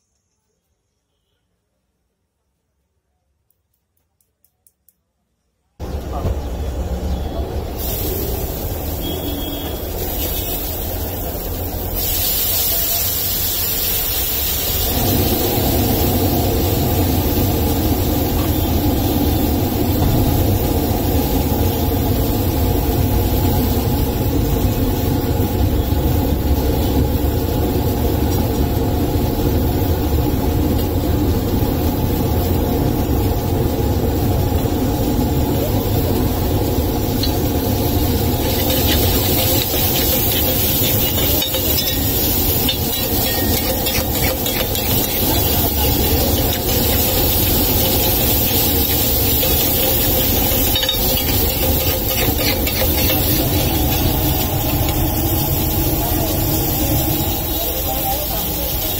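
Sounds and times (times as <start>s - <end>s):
vegetables sizzling on a griddle: 5.8s - 58.9s.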